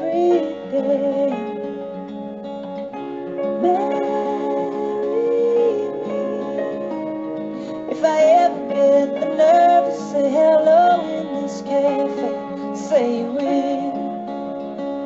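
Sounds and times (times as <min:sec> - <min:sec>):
person singing wordless melody: 0:00.0 - 0:02.3, 0:03.1 - 0:15.0
guitar: 0:00.0 - 0:15.0.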